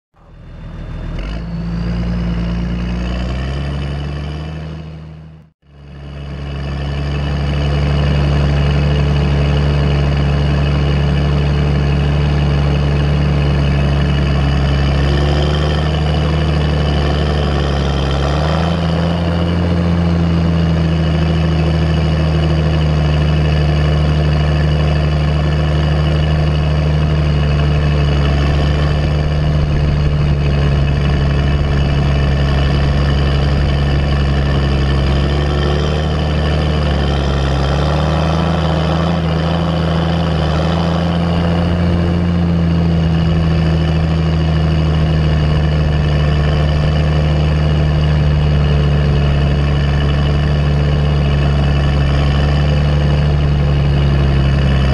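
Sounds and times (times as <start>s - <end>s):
tractor diesel engine running: 0.1s - 54.9s
turbo whine: 0.1s - 54.9s.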